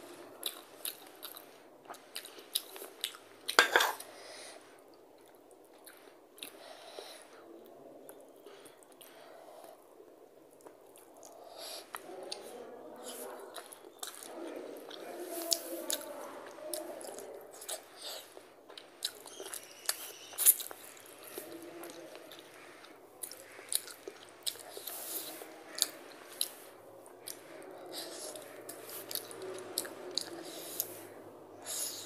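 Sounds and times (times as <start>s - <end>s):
person chewing food: 0.4s - 4.1s, 4.9s - 6.8s, 10.5s - 32.0s.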